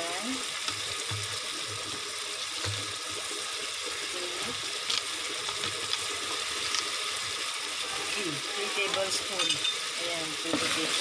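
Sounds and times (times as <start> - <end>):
sauce simmering and sizzling: 0.0 - 11.0.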